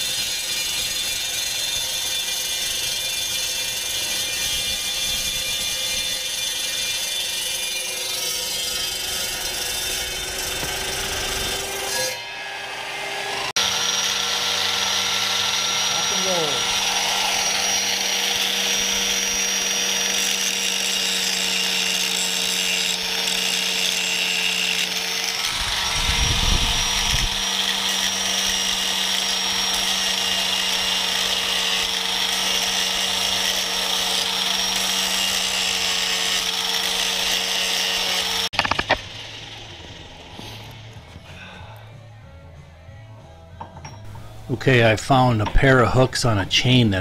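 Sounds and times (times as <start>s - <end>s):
angle grinder grinding steel: 0.0s - 41.6s.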